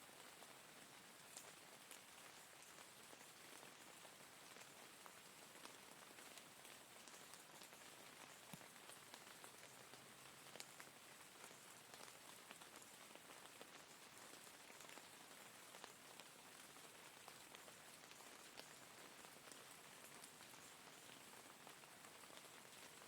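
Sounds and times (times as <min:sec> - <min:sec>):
faint rain hiss: 0:00.0 - 0:23.0
rain drops ticking: 0:00.1 - 0:23.0.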